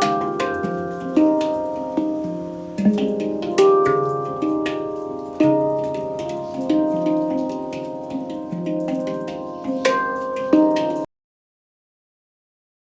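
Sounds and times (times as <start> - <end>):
handpan notes ringing: 0.0 - 11.1.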